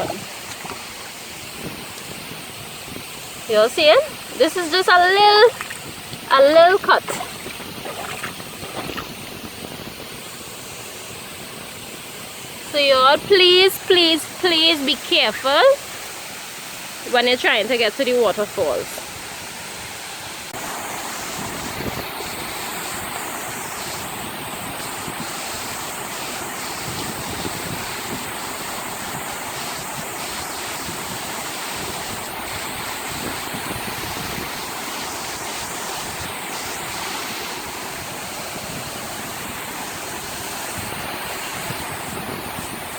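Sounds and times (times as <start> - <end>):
waterfall roaring onto rocks: 0.0 - 42.9.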